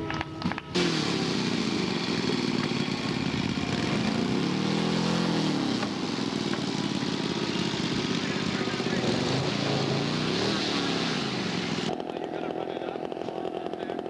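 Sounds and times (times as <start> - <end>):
model airplane engine running: 0.0 - 14.0.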